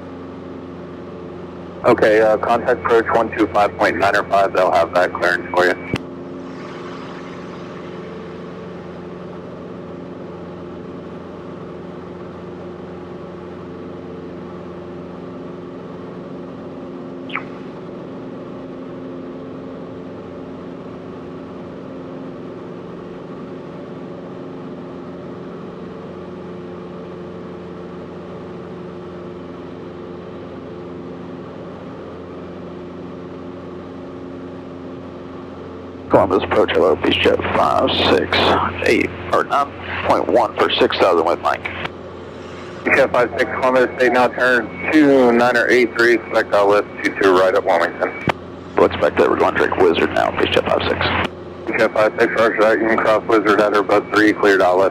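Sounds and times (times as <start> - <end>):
aircraft engine and propeller droning: 0.0 - 54.9.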